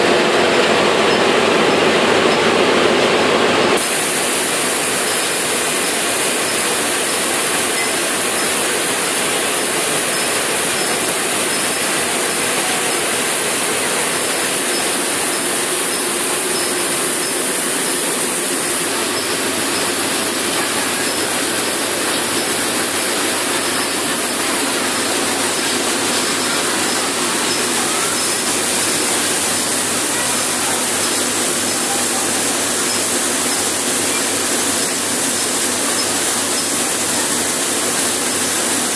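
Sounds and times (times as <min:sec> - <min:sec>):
machinery running with hiss: 0:00.0 - 0:38.9.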